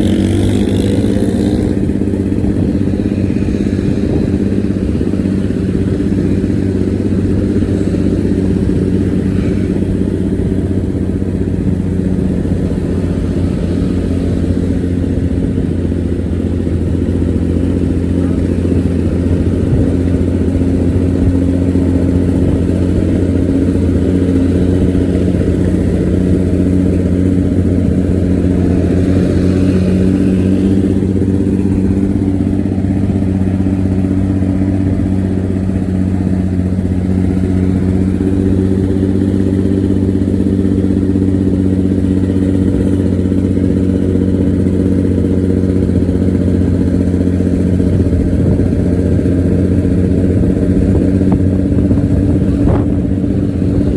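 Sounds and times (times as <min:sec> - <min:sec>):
bus engine growling: 0:00.0 - 0:53.9.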